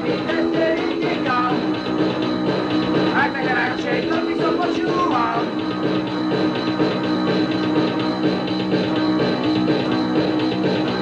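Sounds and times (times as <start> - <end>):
drums keeping a steady beat: 0.0 - 11.0
punk rock band playing: 0.0 - 11.0.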